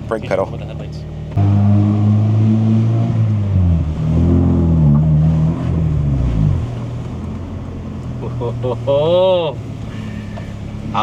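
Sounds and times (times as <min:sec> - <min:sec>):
four-cylinder car engine pulling: 0:00.0 - 0:11.0.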